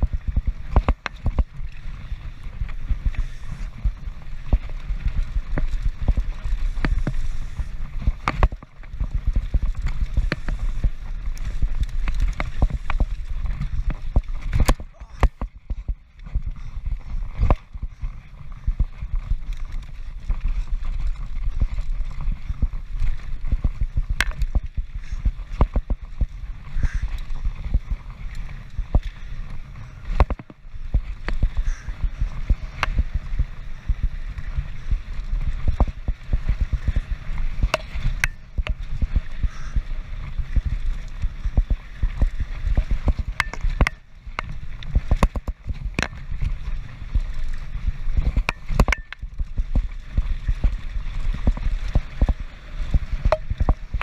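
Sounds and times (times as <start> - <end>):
bike rattling over rough ground: 0.0 - 54.0
wind on microphone: 0.0 - 54.0.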